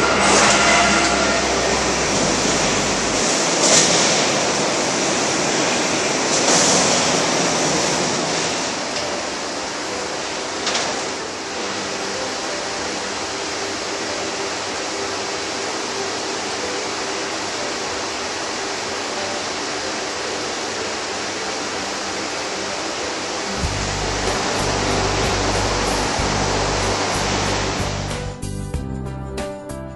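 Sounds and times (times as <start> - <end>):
laser cutter fans whooshing: 0.0 - 28.2.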